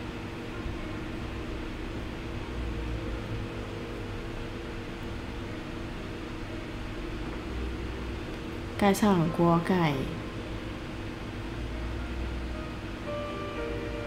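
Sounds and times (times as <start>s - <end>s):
kitchen hum and hiss: 0.0s - 14.0s.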